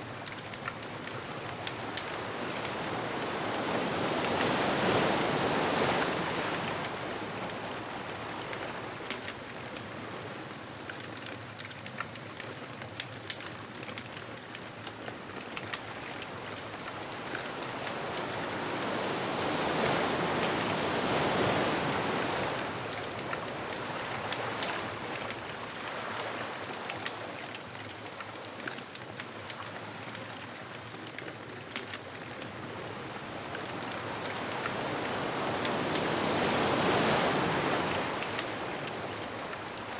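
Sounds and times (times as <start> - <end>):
faint bonfire crackles: 0.0 - 39.9
ocean waves washing onto beach: 0.0 - 39.9.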